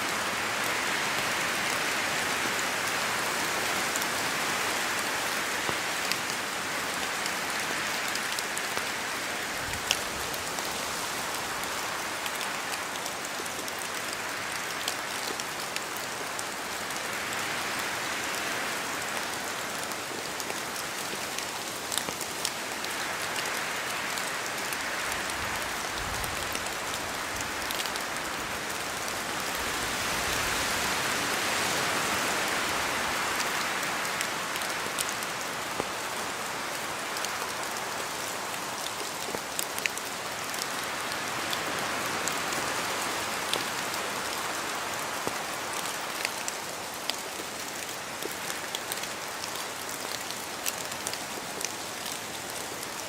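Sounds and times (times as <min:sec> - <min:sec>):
steady rain in forest: 0:00.0 - 0:53.0
wind through branches: 0:00.0 - 0:53.0.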